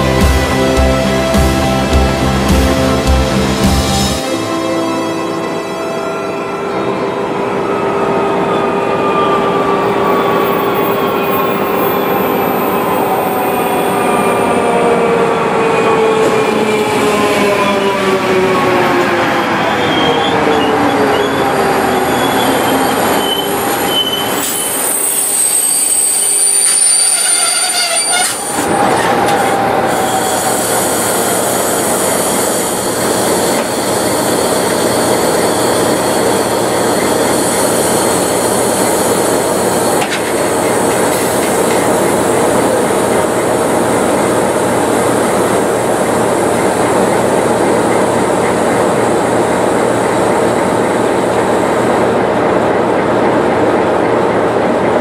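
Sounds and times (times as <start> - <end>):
diesel locomotive idling: 0.0 - 20.0, 21.0 - 55.0
train brakes squealing: 4.2 - 52.0.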